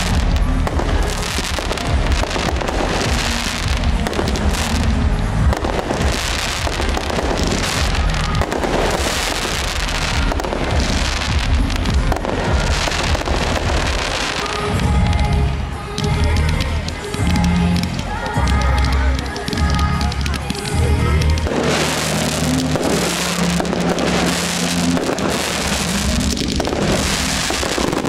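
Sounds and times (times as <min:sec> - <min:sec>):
fireworks bangs and crackles: 0:00.0 - 0:28.0
low rumble: 0:00.0 - 0:28.0.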